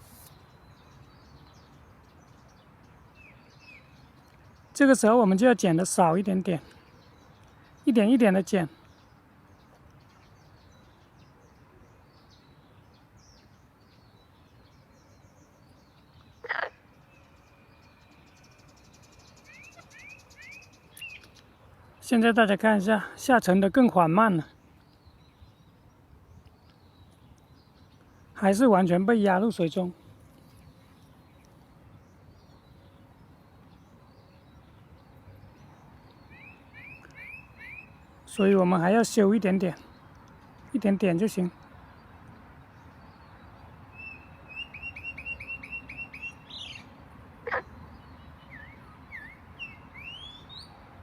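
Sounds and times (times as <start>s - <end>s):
faint birds chirping: 0.0s - 51.0s
faint outdoor background noise: 0.0s - 51.0s.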